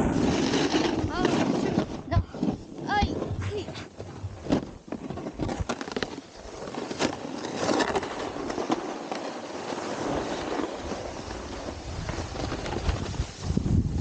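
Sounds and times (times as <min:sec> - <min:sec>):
snowboard scraping on icy snow: 0:00.0 - 0:14.0.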